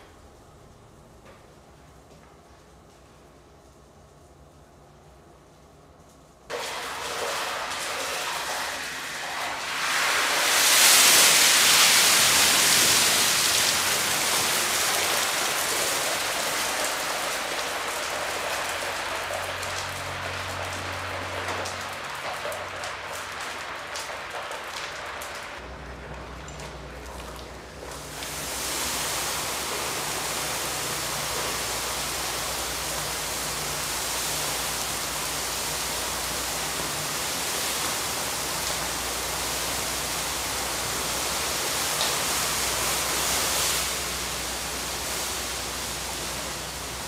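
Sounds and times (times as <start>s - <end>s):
crackling fire: 0.0s - 47.0s
burning oil flaring up: 6.5s - 47.0s.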